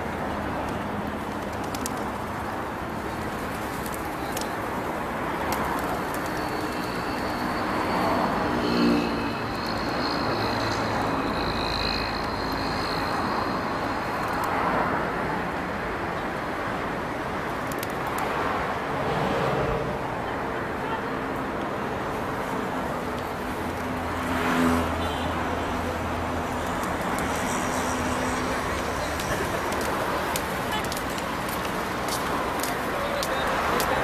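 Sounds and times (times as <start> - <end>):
traffic noise: 0.0 - 34.0.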